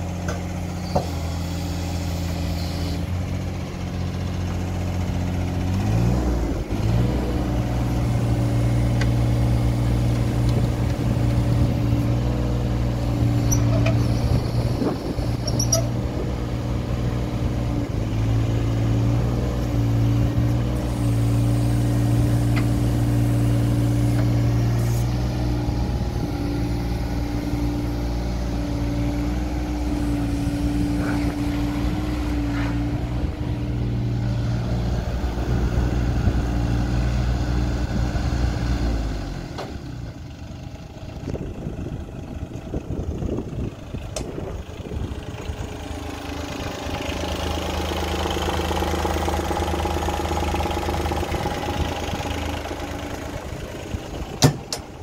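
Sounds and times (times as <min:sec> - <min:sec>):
excavator diesel engine revving: 0:00.0 - 0:55.0.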